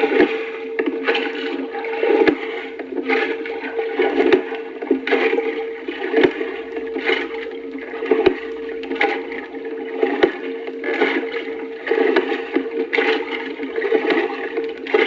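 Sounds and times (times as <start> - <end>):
steady hum: 0.0 - 15.0
water splashing and rushing: 0.0 - 15.0.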